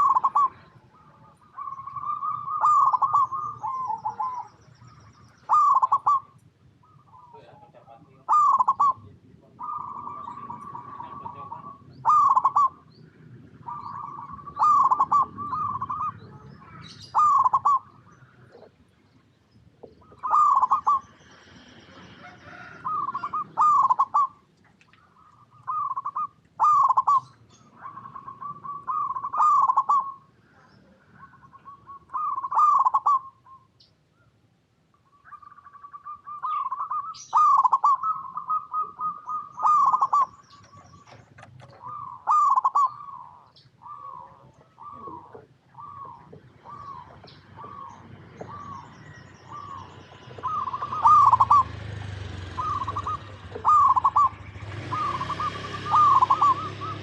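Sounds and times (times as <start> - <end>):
dove cooing: 0.0 - 18.9, 19.7 - 33.8, 35.2 - 57.0.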